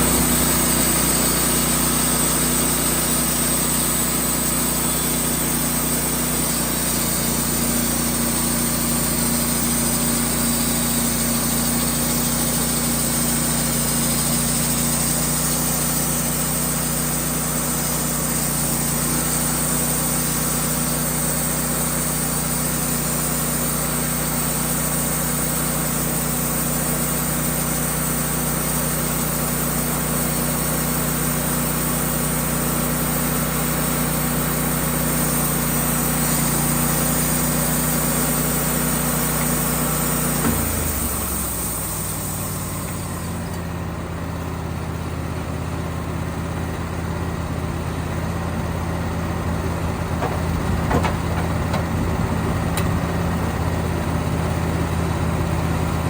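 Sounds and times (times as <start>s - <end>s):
saw blade cutting log: 0.0s - 43.7s, 50.2s - 52.0s
sawmill engine running: 0.0s - 56.0s.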